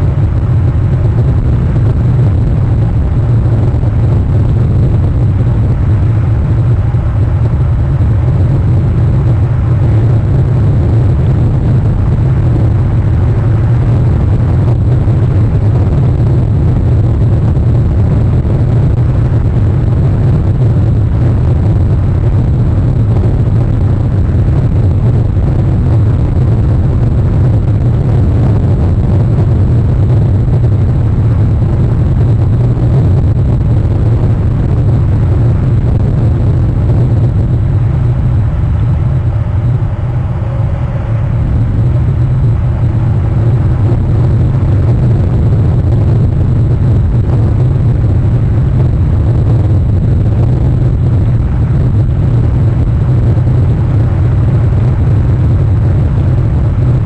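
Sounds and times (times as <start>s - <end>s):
rain and wind rumble: 0.0s - 57.0s.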